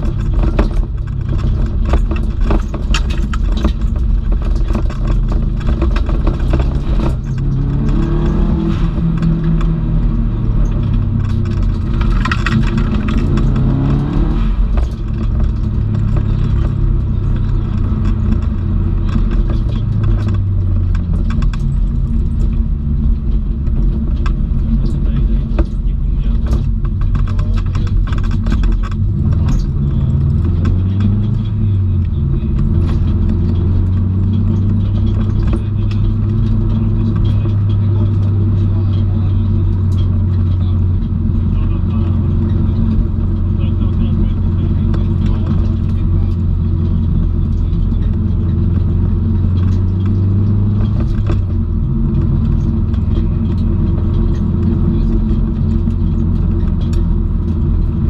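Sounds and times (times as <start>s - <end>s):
car engine revving: 0.0s - 58.0s
road noise: 0.0s - 58.0s.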